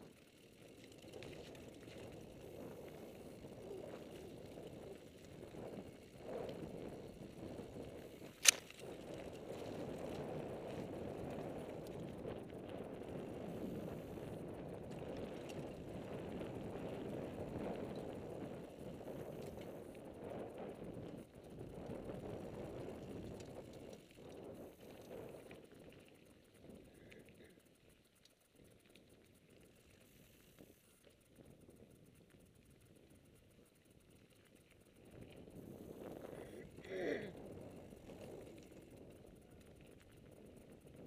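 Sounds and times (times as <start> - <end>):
bike clicks and rattles: 0.0 - 41.0.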